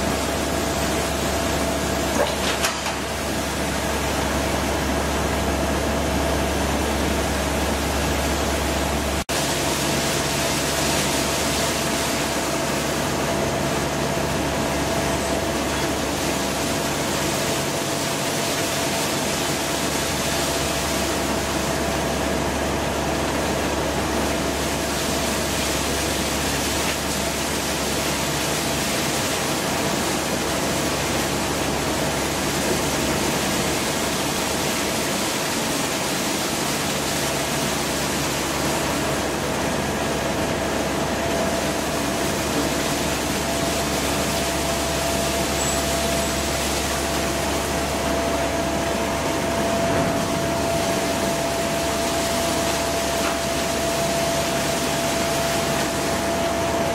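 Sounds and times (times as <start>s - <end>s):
paper mill machinery drone: 0.0s - 56.9s
water rushing through a channel: 0.0s - 56.9s.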